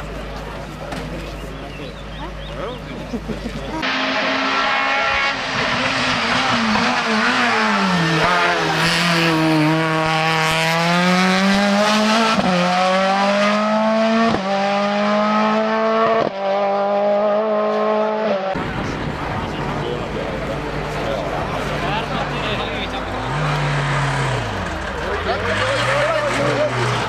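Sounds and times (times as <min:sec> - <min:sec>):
race car engine accelerating: 0:01.0 - 0:27.0.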